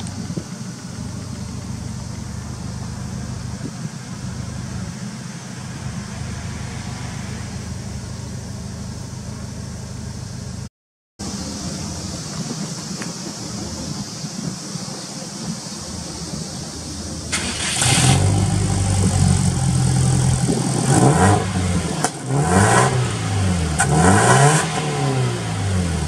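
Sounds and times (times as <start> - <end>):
exhaust hiss: 0.0 - 23.8
car engine idling: 0.0 - 24.0.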